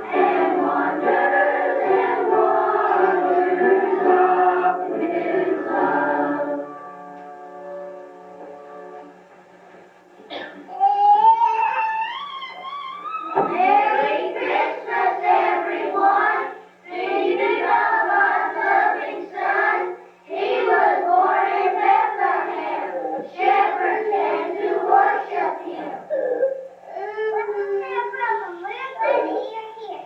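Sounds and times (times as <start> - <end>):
children singing together: 0.0 - 7.3, 10.3 - 28.2.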